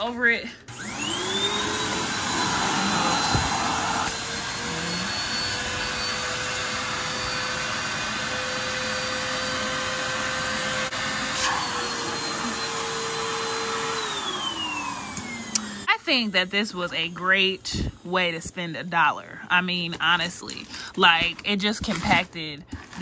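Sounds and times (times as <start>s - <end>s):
vacuum cleaner running: 0.0s - 19.0s, 20.0s - 23.0s.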